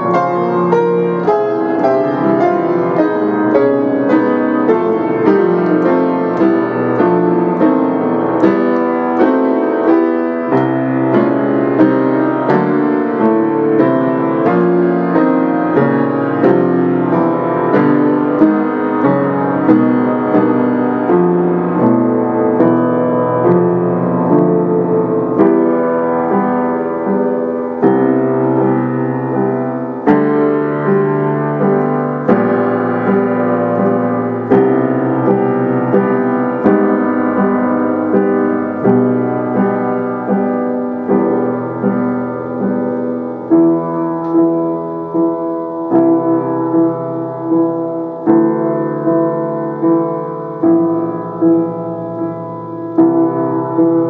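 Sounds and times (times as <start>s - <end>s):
piano playing chords: 0.0s - 54.0s.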